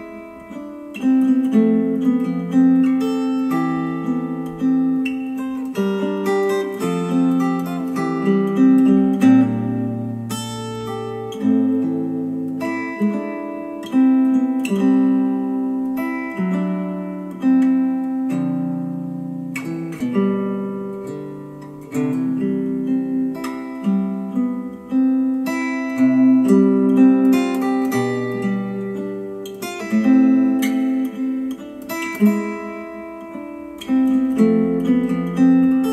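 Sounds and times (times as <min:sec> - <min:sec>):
acoustic guitar music from speakers: 0:00.0 - 0:35.9.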